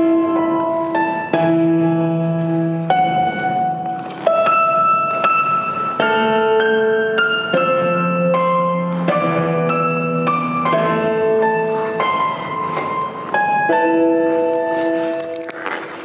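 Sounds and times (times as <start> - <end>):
instrumental music with held notes: 0.0 - 16.0.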